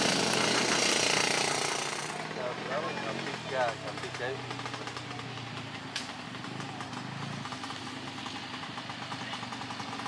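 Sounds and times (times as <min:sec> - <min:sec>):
small motorcycle engines puttering: 0:00.0 - 0:10.0.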